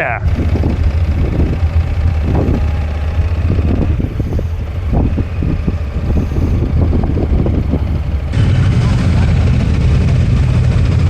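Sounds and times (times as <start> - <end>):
rough buffeting noise: 0.0 - 11.0
vehicle engine rumbling: 0.0 - 11.0.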